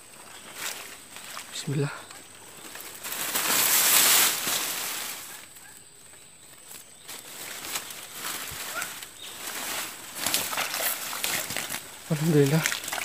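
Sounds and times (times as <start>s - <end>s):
grass and weeds rustling: 0.0s - 13.0s.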